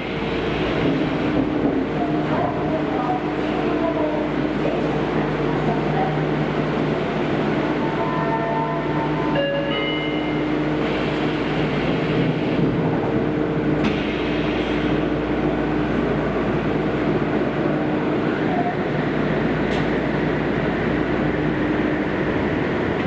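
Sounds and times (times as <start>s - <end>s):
train rumbling in tunnel: 0.0s - 23.0s.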